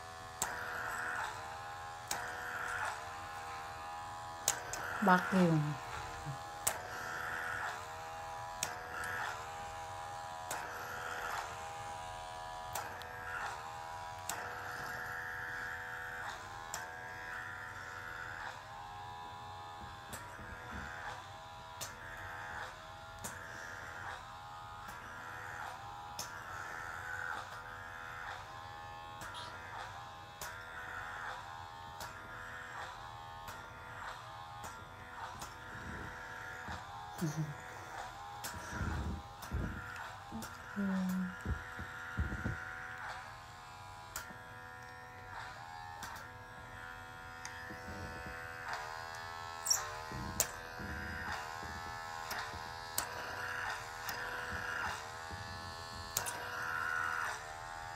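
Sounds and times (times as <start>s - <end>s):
small electric motor buzzing: 0.0s - 57.9s.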